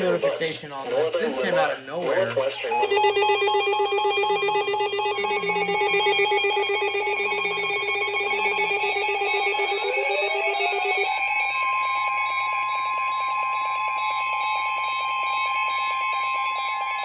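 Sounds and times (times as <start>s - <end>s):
buzzing warbling electronic data sound: 2.2s - 17.0s
steady high alert tone: 2.5s - 17.0s.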